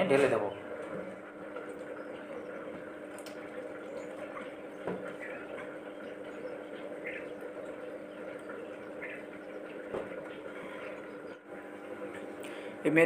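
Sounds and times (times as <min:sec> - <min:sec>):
steady hum: 0:00.0 - 0:13.0
liquid trickling: 0:00.7 - 0:12.8.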